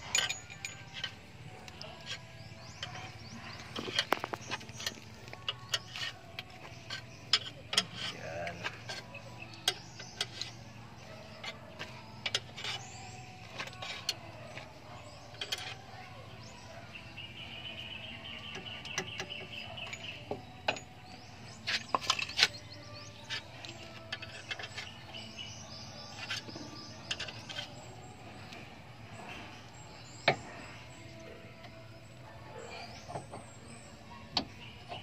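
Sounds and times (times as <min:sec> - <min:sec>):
hand tools clinking on metal: 0:00.0 - 0:17.0, 0:18.5 - 0:31.8.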